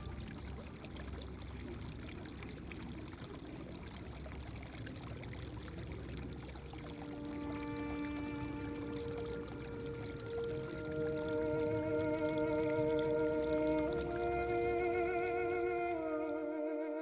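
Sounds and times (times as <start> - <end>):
water rushing and gurgling: 0.0 - 16.6.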